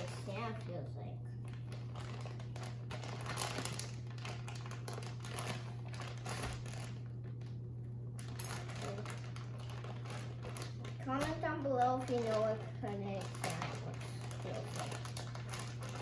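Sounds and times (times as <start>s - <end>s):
steady low hum: 0.0s - 16.0s
plastic packaging crinkling: 1.4s - 16.0s.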